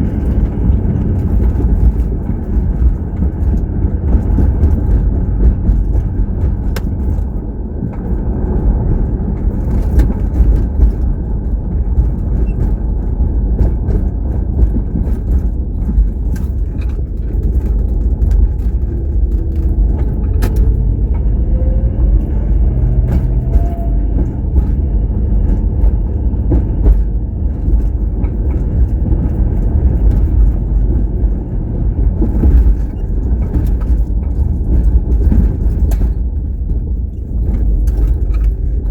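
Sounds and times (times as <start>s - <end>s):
car rumbling in motion: 0.0s - 38.9s
small clicks and rattles: 0.0s - 38.9s.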